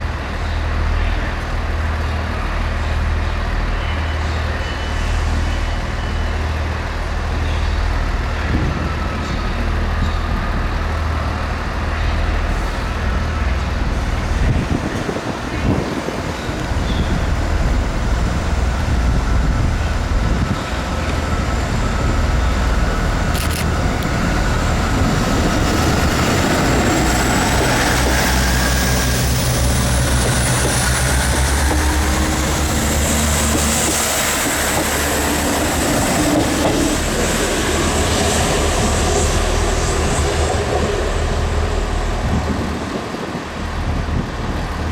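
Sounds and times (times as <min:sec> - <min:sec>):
train diesel engines running: 0:00.0 - 0:44.9
wheel and rail noise: 0:00.0 - 0:44.9.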